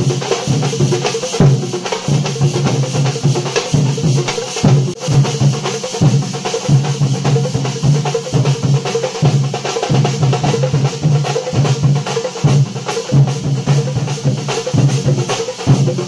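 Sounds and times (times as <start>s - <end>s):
large drums beaten with sticks: 0.0s - 16.0s.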